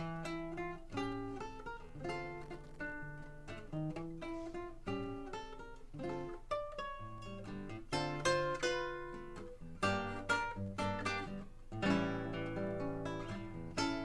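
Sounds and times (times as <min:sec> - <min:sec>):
solo guitar plucked notes: 0:00.0 - 0:14.0.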